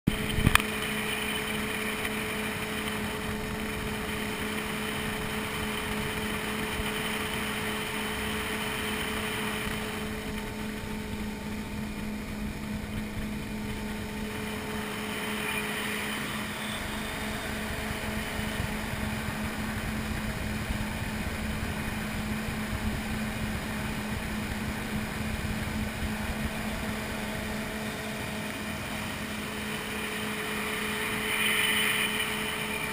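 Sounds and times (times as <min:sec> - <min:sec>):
watercraft engine drone: 0:00.1 - 0:32.9.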